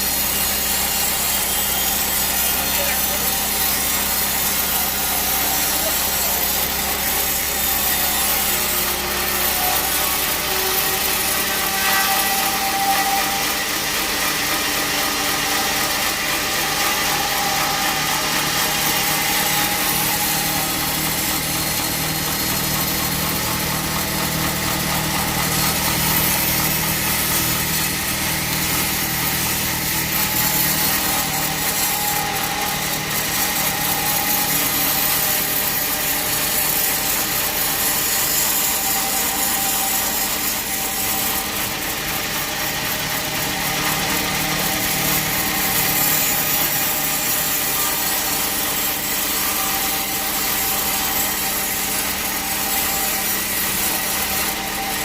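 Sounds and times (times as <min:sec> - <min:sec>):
band saw cutting a log: 0:00.0 - 0:55.0.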